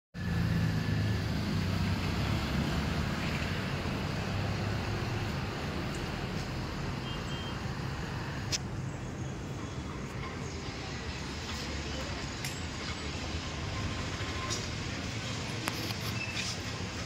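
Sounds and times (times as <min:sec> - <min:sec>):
road traffic rumble: 0:00.2 - 0:17.0.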